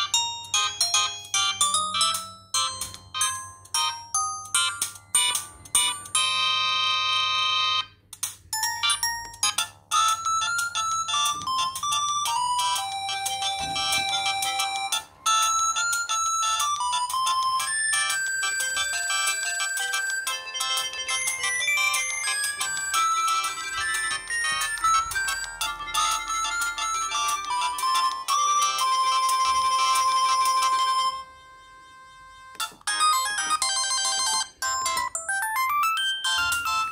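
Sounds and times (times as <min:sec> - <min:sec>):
electronic ringtone melody: 0:00.0 - 0:36.9
quick ringtone melody: 0:00.0 - 0:36.9.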